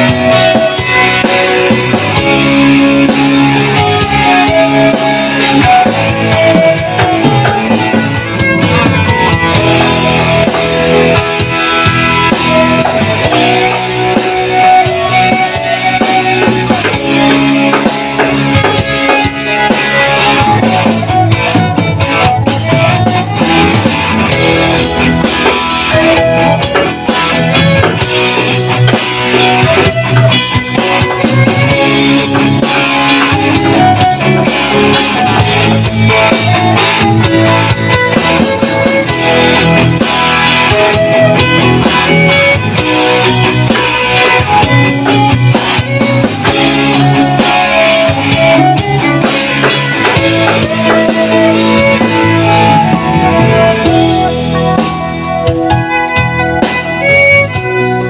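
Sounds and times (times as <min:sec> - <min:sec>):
backing music with steady beat: 0:00.0 - 0:58.0
violin melody: 0:00.0 - 0:58.0.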